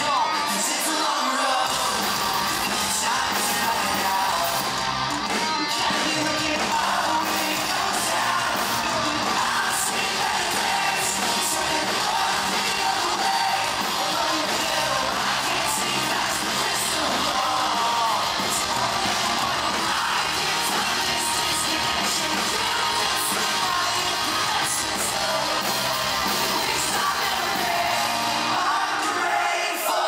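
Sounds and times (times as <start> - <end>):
lead singer's vocal: 0.0 - 30.0
pop-punk band playing live: 0.0 - 30.0.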